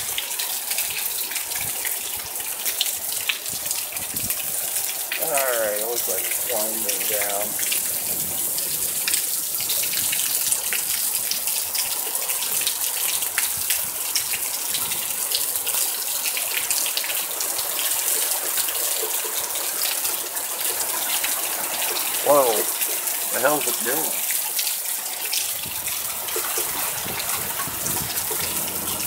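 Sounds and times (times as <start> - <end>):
close raindrops striking: 0.0 - 29.0
heavy rain pouring: 0.0 - 29.0.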